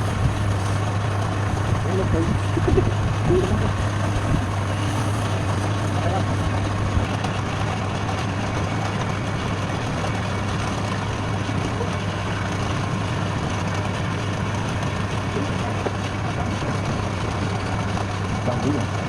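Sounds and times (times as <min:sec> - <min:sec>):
woodturning lathe motor hum: 0:00.0 - 0:19.0.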